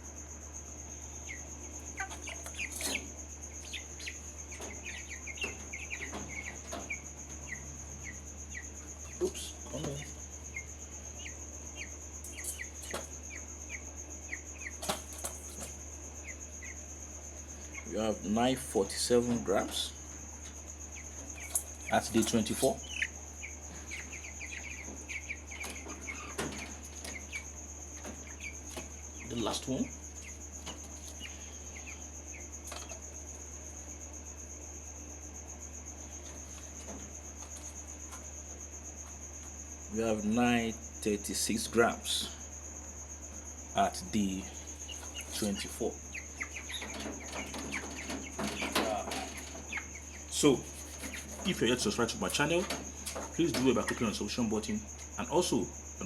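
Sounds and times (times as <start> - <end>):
cricket trilling: 0.0 - 56.0
high-pitched insect drone: 0.0 - 56.0
chick peeping: 0.1 - 55.7.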